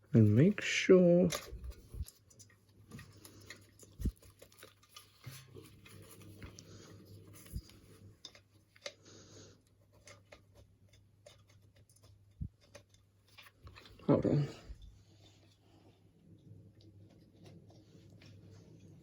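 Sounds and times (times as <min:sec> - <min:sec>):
small clicks and light rustling: 0:01.2 - 0:19.0.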